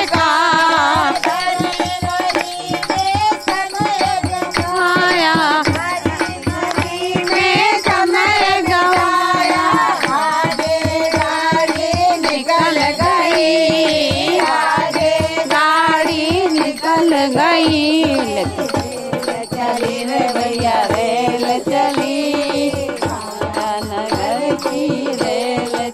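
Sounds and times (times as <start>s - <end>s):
hand-claps keeping a beat: 0.0s - 25.9s
women singing devotional song: 0.0s - 25.9s.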